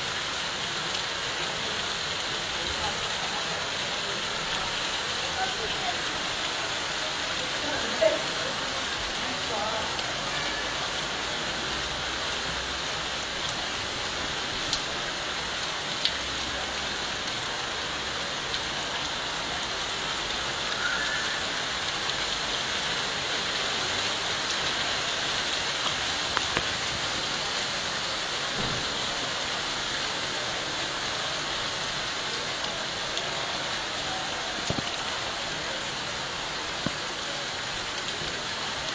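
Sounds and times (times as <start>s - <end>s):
rain hissing: 0.0s - 38.9s.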